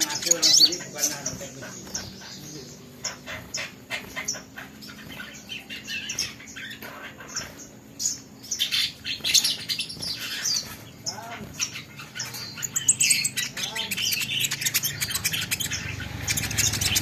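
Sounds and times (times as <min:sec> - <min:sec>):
songbird chirping and twittering: 0:00.0 - 0:17.0.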